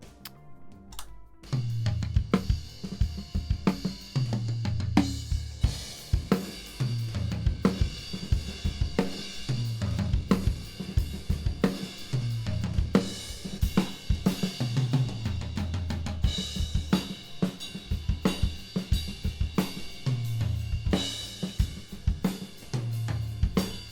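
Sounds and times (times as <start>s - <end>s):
drum kit groove: 0.0s - 23.9s.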